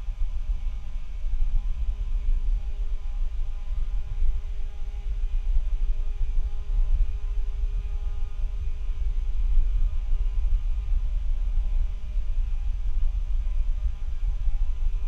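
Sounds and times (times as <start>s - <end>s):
unsteady low rumble: 0.0s - 15.0s.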